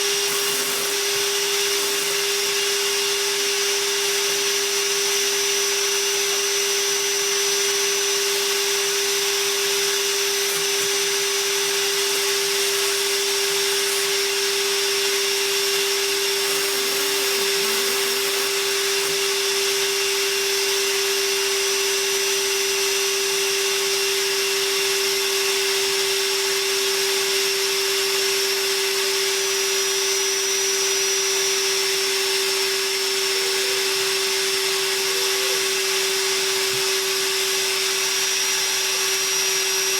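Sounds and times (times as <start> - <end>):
wet dry vacuum running: 0.0 - 39.9.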